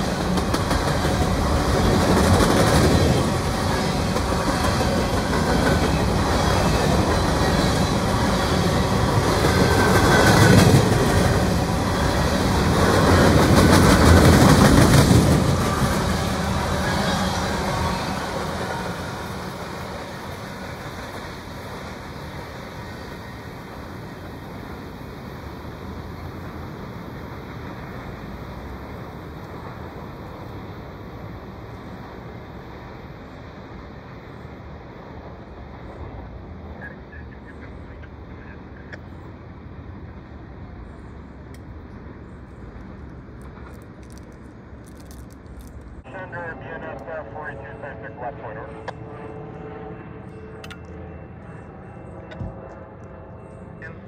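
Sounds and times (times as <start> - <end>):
freight train rolling on rails: 0.0 - 54.0.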